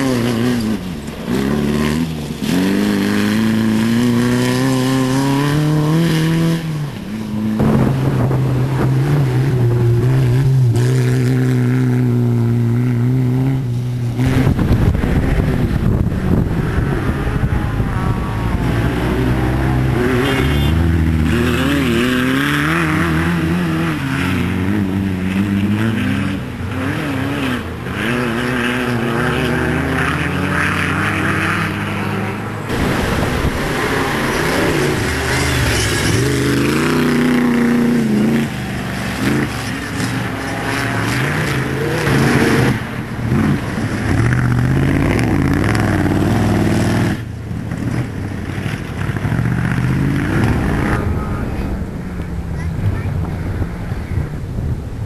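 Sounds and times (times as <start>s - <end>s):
car engines revving hard: 0.0s - 55.0s.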